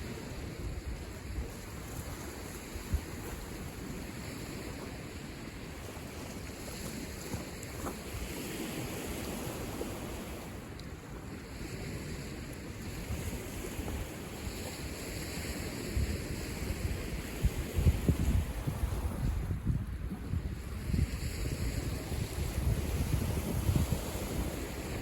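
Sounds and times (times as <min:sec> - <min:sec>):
waves washing on shore: 0:00.0 - 0:25.0
wind buffeting microphone: 0:00.0 - 0:25.0.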